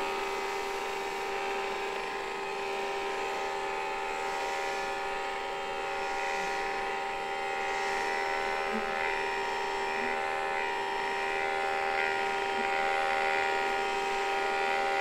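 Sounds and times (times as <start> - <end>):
vacuum cleaner humming: 0.0 - 15.0.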